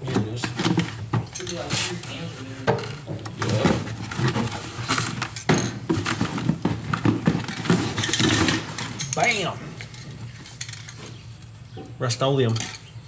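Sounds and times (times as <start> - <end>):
items knocking and clattering: 0.0 - 2.0, 2.6 - 11.2
plastic bags rustling: 0.6 - 11.3.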